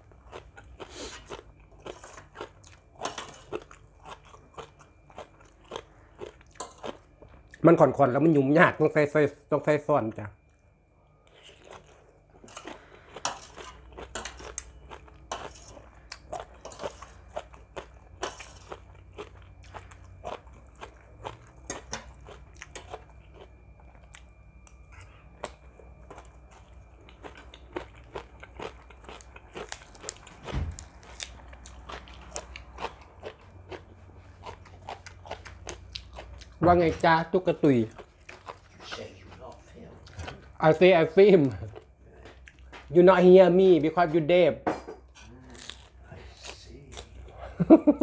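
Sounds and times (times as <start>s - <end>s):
person chewing crunchy food: 0.0s - 7.6s, 10.4s - 43.0s, 45.1s - 47.7s.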